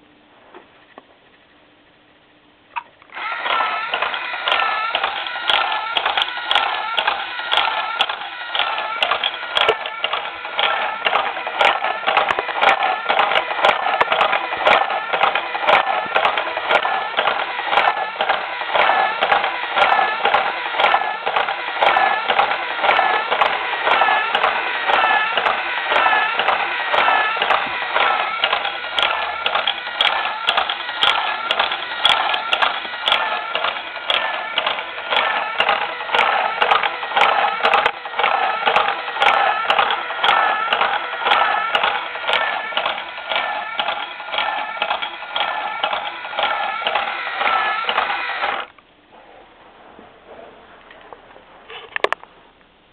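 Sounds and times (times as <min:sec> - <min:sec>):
motor whine: 0:03.1 - 0:48.8
plastic engine parts clattering: 0:03.2 - 0:48.7.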